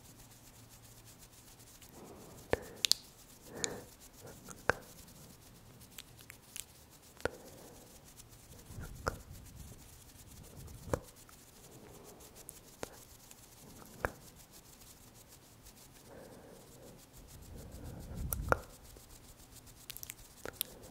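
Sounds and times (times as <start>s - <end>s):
fingertips rubbing microphone: 0.0s - 20.9s.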